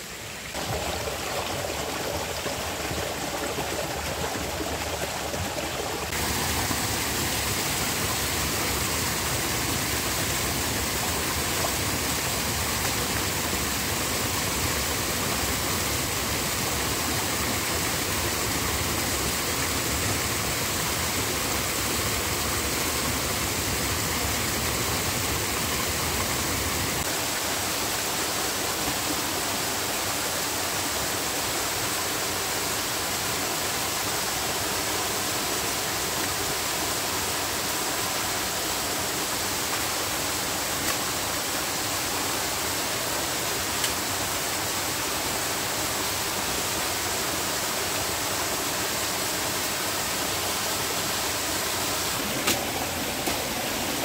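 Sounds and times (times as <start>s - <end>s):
flowing water hiss: 0.0s - 54.0s.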